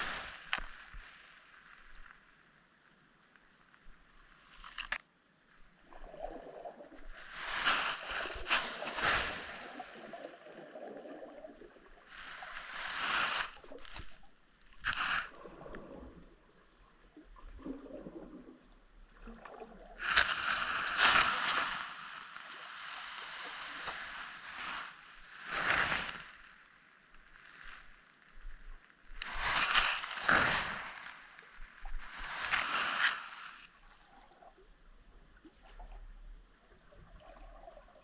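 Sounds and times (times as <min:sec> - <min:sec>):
underwater water swishing: 0:00.0 - 0:02.2, 0:03.9 - 0:38.0.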